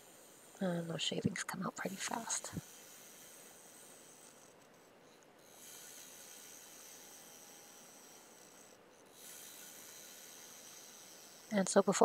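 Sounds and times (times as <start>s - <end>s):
gouge hissing on spinning wood: 0.0s - 12.0s.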